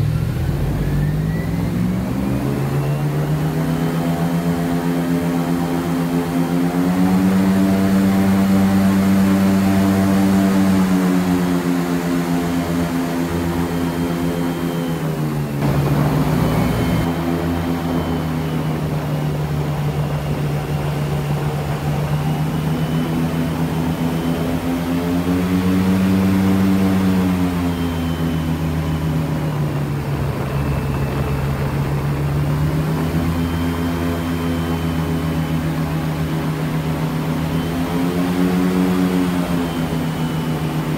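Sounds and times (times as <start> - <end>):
airboat engine and propeller drone: 0.0 - 40.9.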